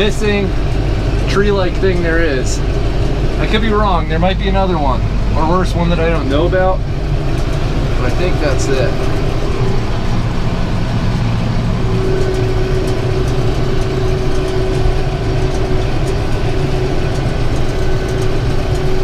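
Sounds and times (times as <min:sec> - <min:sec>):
high-pitched whine: 0:00.0 - 0:19.0
tractor engine running: 0:00.0 - 0:19.0.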